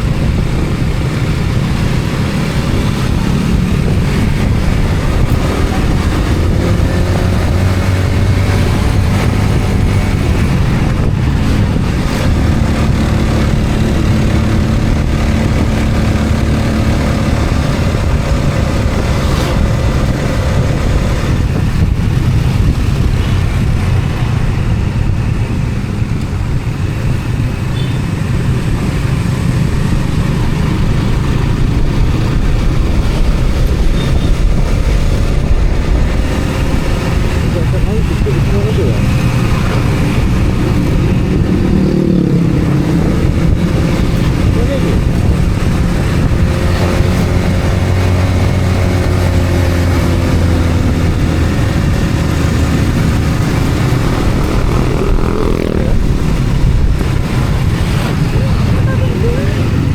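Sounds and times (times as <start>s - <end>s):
tyre and wind noise: 0.0s - 59.9s
vehicle engine running: 0.0s - 59.9s.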